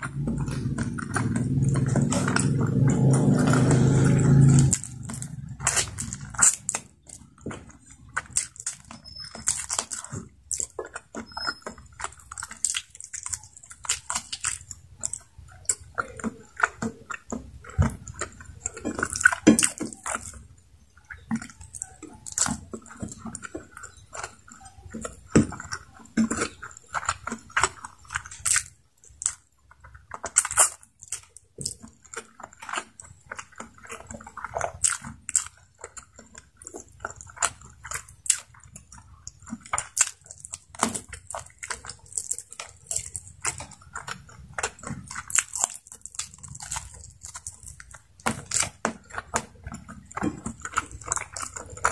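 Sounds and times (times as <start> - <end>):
chewing and mouth sounds: 0.0 - 51.9.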